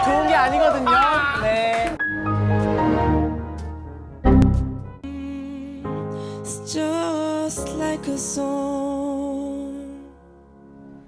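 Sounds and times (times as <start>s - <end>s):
slow soft chord music: 2.0s - 11.0s.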